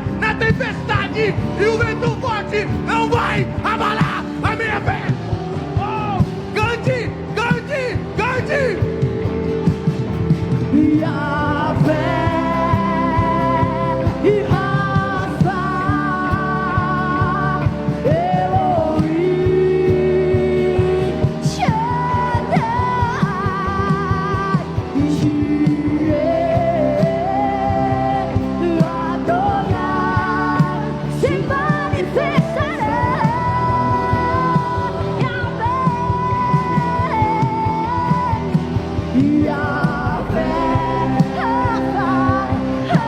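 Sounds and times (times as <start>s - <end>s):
band accompaniment: 0.0s - 43.0s
person singing with vibrato: 0.0s - 43.0s.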